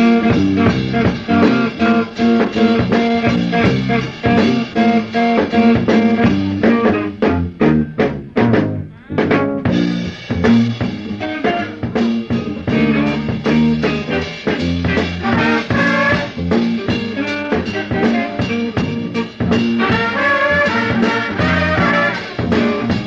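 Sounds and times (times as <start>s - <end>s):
funk band playing: 0.0s - 23.0s.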